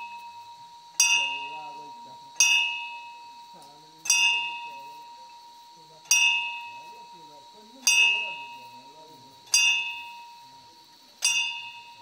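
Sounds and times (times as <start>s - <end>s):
metal bell ringing: 0.0s - 12.0s.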